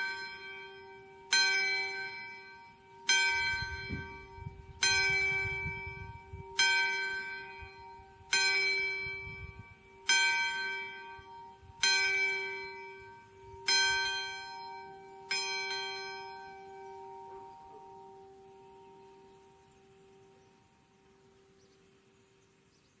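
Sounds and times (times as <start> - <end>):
church bell tolling: 0.0 - 20.4.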